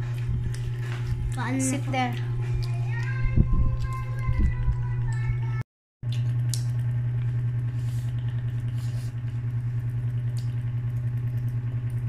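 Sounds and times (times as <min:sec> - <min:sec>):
low mechanical hum with flutter: 0:00.0 - 0:12.0.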